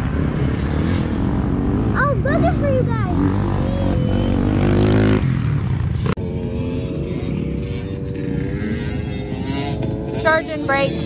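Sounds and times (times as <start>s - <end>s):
dirt bike engines running: 0.0s - 11.0s
steady engine sound: 0.0s - 11.0s.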